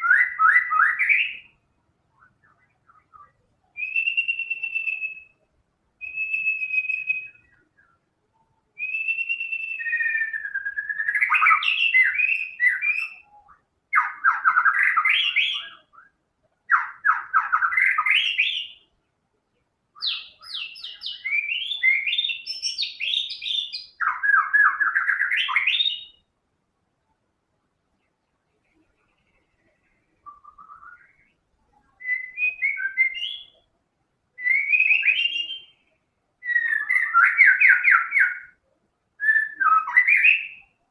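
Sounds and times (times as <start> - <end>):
bird singing whistled phrases: 0.0 - 18.9, 20.0 - 26.3, 30.1 - 33.7, 34.4 - 38.6, 39.2 - 40.8.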